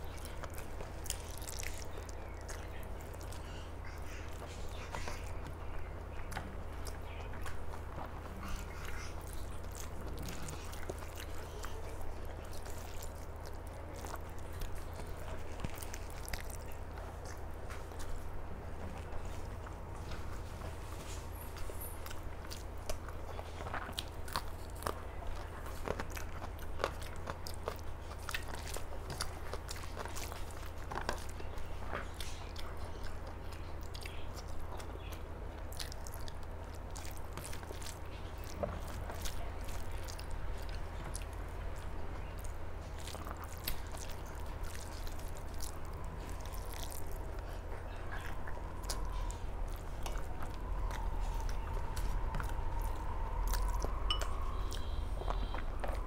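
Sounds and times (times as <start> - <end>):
chewing with wet mouth clicks: 0.0 - 56.0
steady low hum: 0.0 - 56.0.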